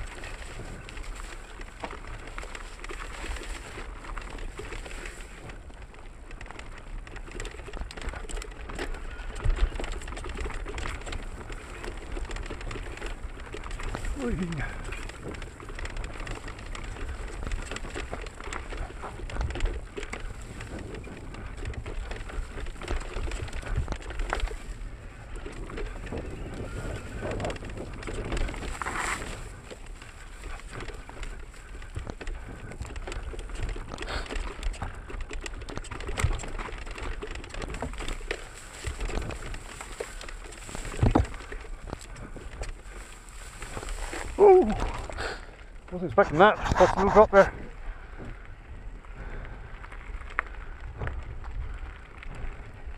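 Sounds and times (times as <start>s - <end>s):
bike rattling with small knocks: 0.0s - 52.9s
bike tyres rumbling on dirt: 0.0s - 52.9s.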